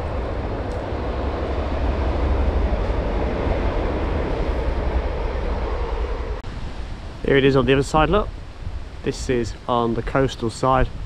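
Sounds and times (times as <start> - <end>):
train rumbling over bridge: 0.0 - 10.1.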